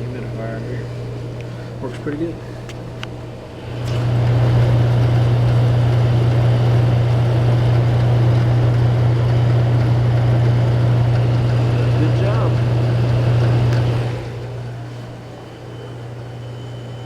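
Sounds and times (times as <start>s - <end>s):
compressor humming: 0.0s - 17.0s
fan air rush: 0.0s - 17.0s.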